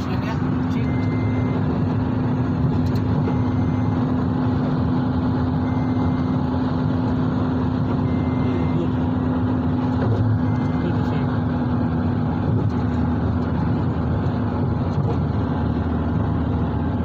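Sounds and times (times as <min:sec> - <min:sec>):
car cabin road and engine noise: 0:00.0 - 0:17.0.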